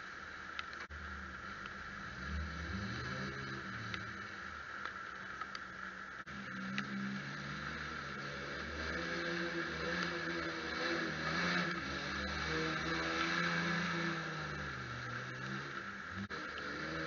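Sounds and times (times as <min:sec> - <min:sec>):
truck engine revving: 0:00.9 - 0:17.0.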